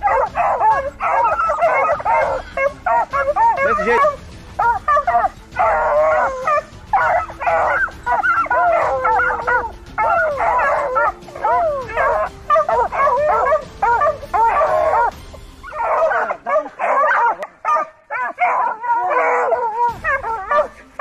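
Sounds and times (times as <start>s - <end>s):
hounds baying: 0.0s - 21.0s.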